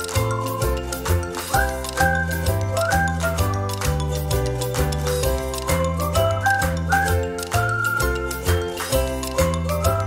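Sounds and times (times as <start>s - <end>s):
light background music with beat: 0.0s - 10.0s.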